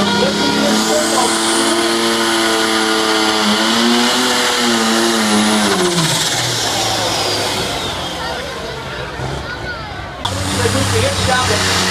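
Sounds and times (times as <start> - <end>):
diesel engine at high revs: 0.0 - 11.9.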